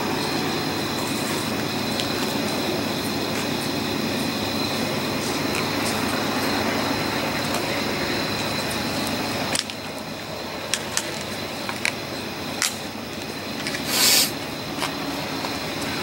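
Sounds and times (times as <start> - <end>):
freight train hissing and rumbling: 0.0 - 16.0.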